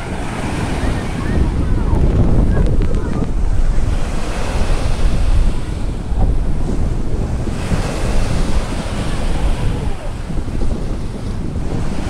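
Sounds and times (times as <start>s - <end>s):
small waves breaking on beach: 0.0s - 12.0s
wind buffeting microphone: 0.0s - 12.0s.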